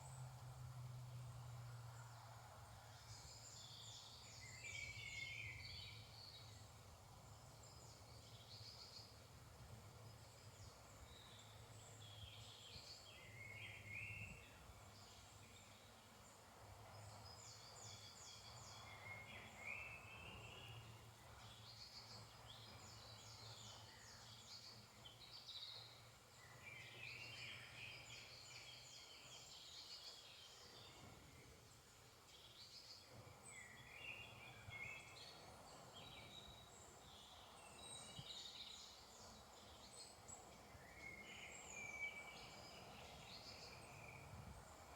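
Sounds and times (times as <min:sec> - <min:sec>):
faint songbirds singing: 0:00.0 - 0:44.9.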